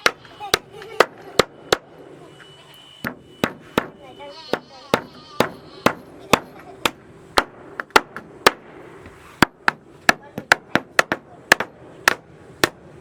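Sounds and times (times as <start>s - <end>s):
hammer nailing wood: 0.0s - 1.9s, 3.0s - 13.0s.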